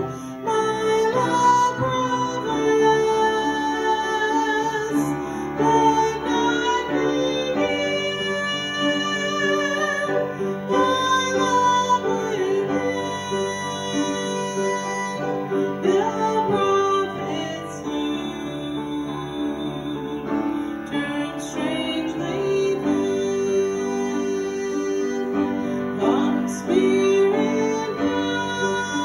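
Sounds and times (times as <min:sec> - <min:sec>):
woman singing: 0:00.0 - 0:29.0.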